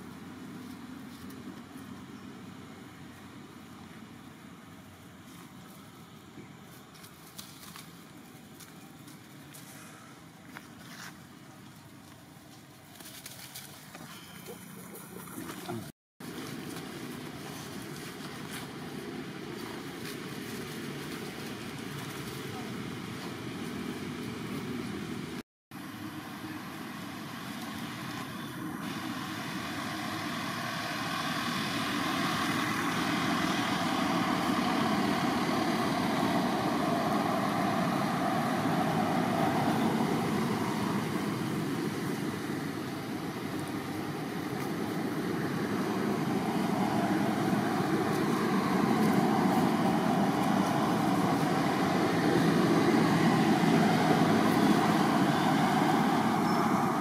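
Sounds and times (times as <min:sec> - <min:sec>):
distant traffic rumble and hiss: 0:00.0 - 0:57.0.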